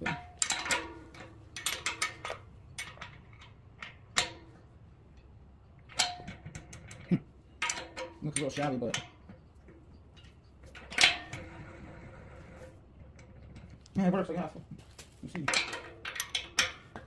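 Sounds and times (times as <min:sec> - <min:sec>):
metal tools clinking on steel: 0:00.0 - 0:17.0.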